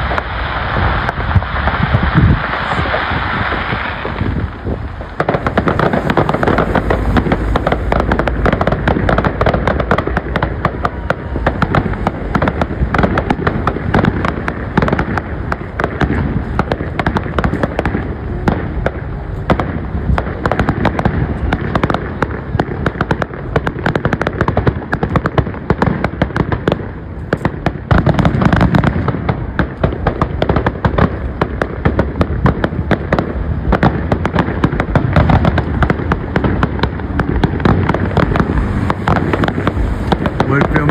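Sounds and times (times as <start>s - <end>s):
fireworks bursting and crackling: 0.0s - 40.9s
heavy firework booms: 0.0s - 40.9s.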